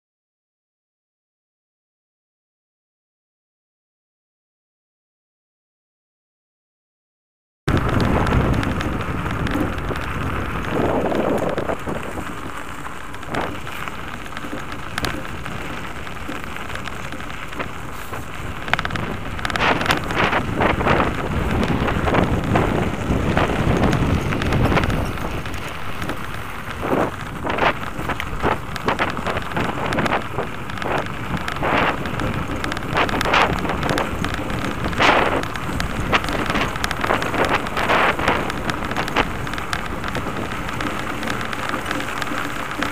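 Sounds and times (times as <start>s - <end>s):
land yacht rolling on pavement: 7.7s - 42.9s
sharp crackles and knocks: 7.7s - 42.9s
wind buffeting microphone: 7.7s - 42.9s.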